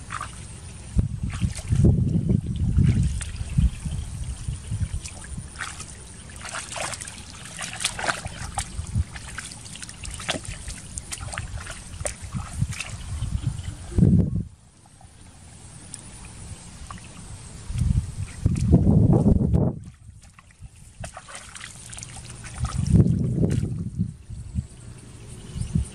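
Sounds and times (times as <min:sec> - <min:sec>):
small splashes and drips: 0:00.0 - 0:13.7, 0:14.8 - 0:18.8, 0:19.5 - 0:24.1
muddy water sloshing: 0:00.0 - 0:14.0, 0:14.8 - 0:24.1.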